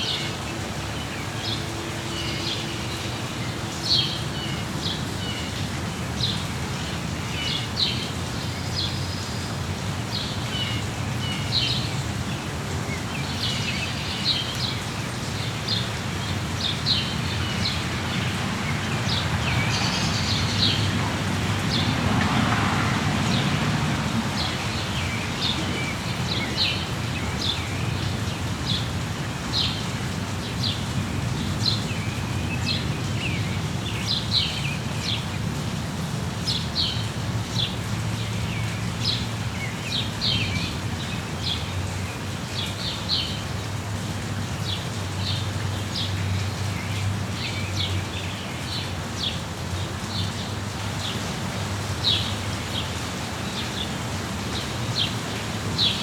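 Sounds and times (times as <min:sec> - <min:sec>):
rain falling: 0:00.0 - 0:56.0
songbirds chirping: 0:00.0 - 0:56.0.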